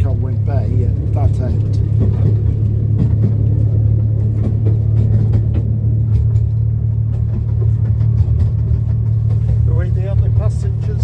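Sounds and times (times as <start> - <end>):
railway carriage rumbling on track: 0.0 - 11.0.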